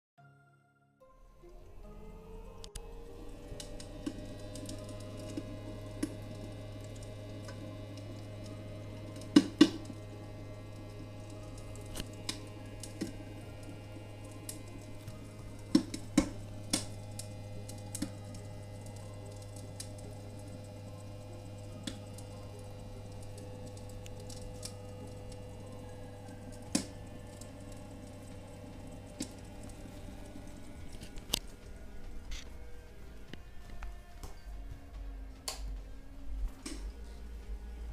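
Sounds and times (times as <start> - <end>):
steady low hum: 1.0 - 37.9
recorded firewood crackling: 2.5 - 37.9.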